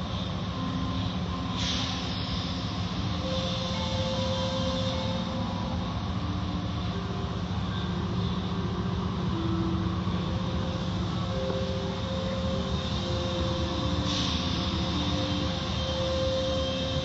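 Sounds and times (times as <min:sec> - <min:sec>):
low hum of machinery: 0:00.0 - 0:17.0.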